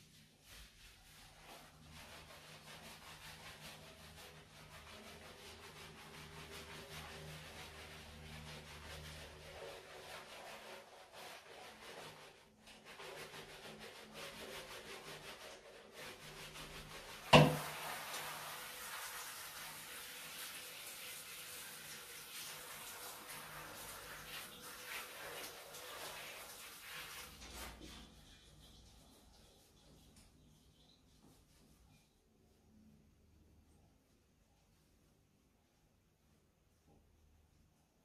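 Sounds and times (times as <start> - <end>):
hands rubbing wet fur: 0.0 - 33.0.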